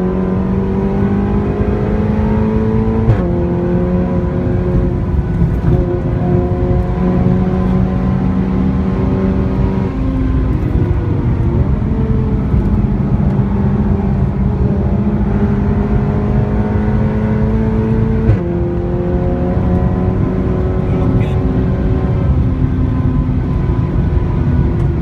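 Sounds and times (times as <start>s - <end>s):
car engine with loud exhaust: 0.0s - 25.0s.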